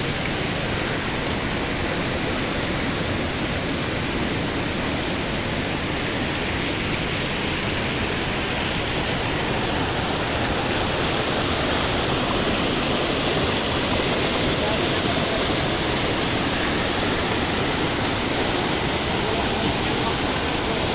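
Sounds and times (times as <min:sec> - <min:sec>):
water rushing over rocks: 0:00.0 - 0:20.9.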